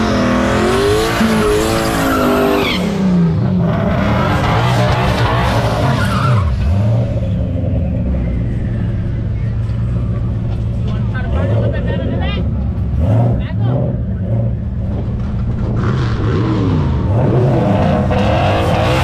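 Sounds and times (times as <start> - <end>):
car engine revving: 0.0 - 19.0
engine rumble and idle: 2.8 - 18.3.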